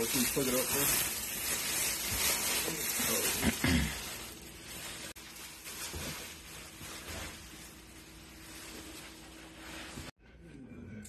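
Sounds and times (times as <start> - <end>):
plastic wrapping rustling: 0.0 - 10.1.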